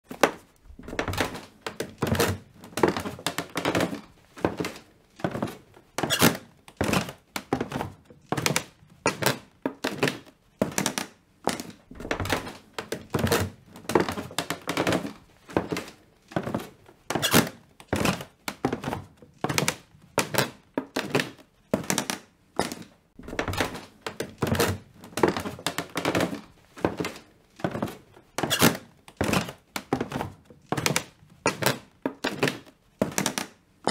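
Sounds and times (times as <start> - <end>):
slipper footsteps on stairs: 0.2 - 28.6.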